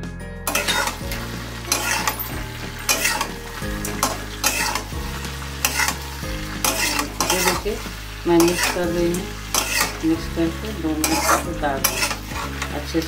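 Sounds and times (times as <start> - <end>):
metal spatula scraping pan: 0.5 - 12.8
food sizzling: 0.5 - 13.0.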